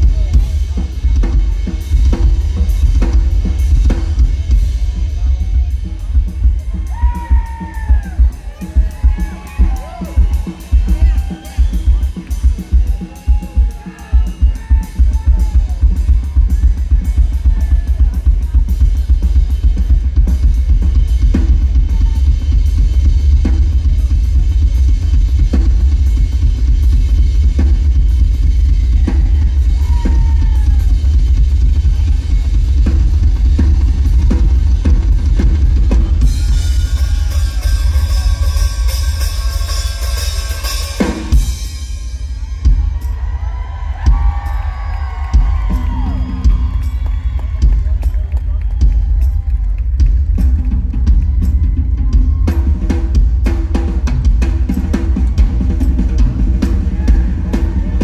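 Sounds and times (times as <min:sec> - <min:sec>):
rock drum solo: 0:00.0 - 0:58.0.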